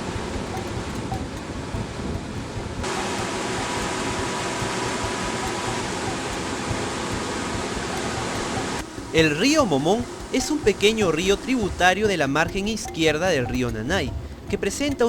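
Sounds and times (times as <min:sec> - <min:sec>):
faint motor hum: 0:00.0 - 0:15.0
rush of water and wind: 0:00.0 - 0:15.0.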